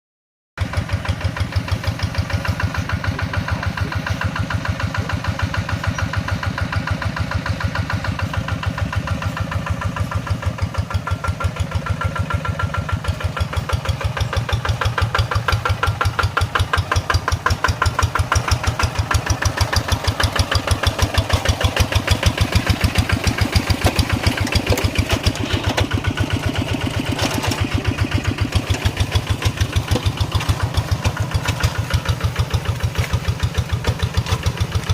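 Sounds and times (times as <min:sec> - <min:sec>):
tractor engine running: 0:00.6 - 0:34.9.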